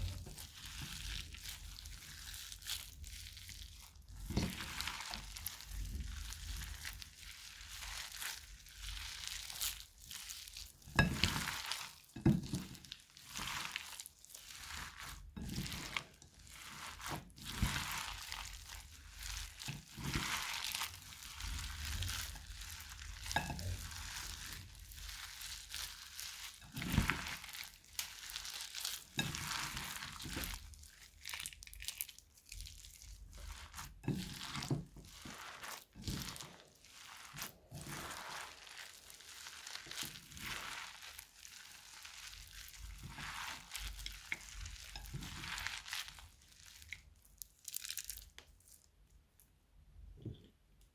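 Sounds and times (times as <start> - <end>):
crunchy slime squished by hand: 0.0 - 49.4.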